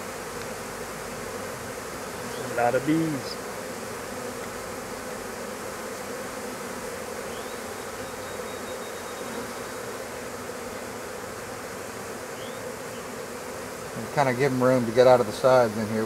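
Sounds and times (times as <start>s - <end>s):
honeybee swarm humming: 0.0s - 16.0s.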